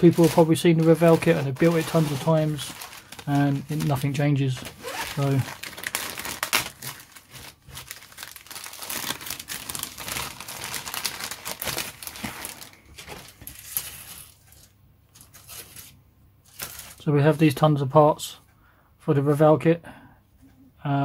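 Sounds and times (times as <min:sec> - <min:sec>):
plastic bag crinkling: 0:00.0 - 0:17.1.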